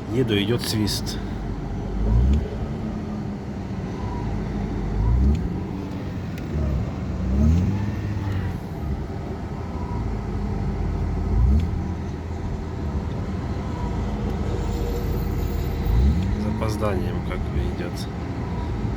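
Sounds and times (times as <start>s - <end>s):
car engine revving: 0.1s - 18.9s.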